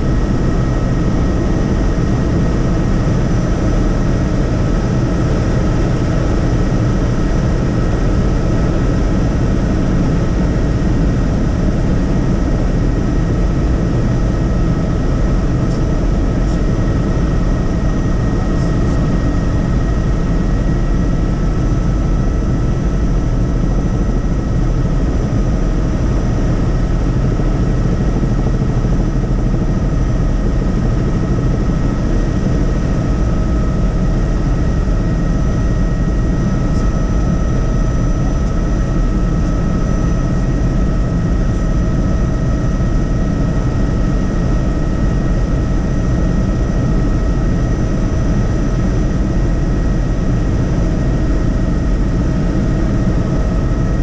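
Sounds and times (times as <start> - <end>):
helicopter rotor and engine noise: 0.0 - 54.0
thin steady whine: 0.0 - 54.0.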